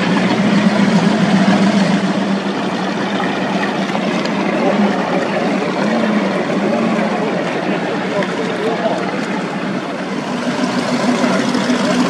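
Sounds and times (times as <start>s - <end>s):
powerboat engine drone: 0.0s - 12.0s.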